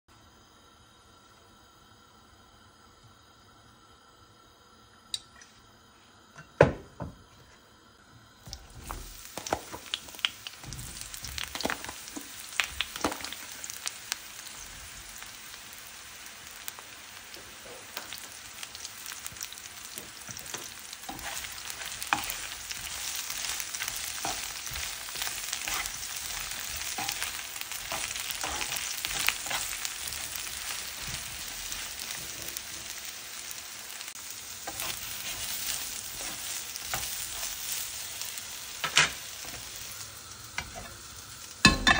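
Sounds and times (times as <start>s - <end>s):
aubergine sizzling in frying pan: 0.2s - 41.9s.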